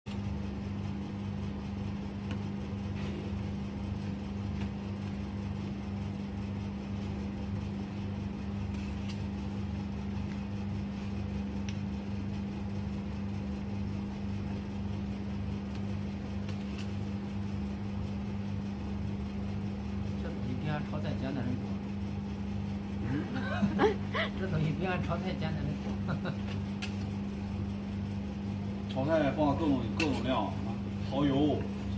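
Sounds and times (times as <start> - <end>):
compressor humming: 0.1 - 31.9.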